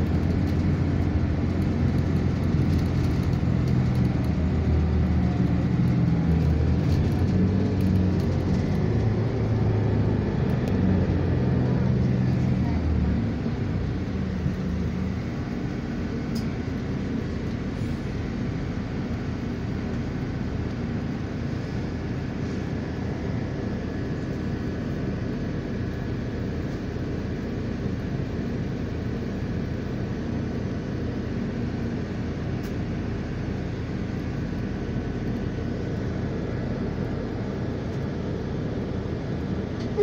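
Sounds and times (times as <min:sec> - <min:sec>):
vehicle road and engine noise: 0:00.0 - 0:40.0.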